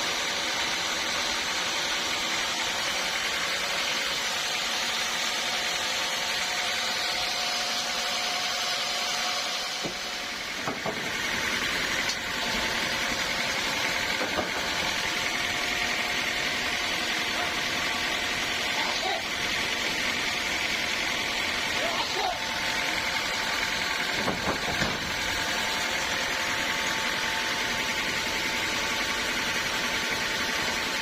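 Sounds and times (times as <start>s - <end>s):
sawmill machinery hum and hiss: 0.0s - 31.0s.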